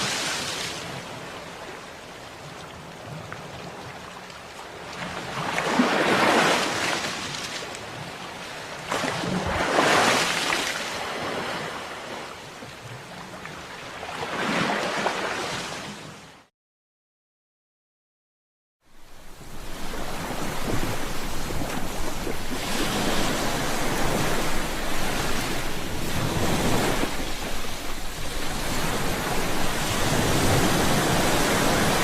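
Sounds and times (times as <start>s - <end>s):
sea waves breaking on shore: 0.0s - 16.5s, 18.9s - 32.0s.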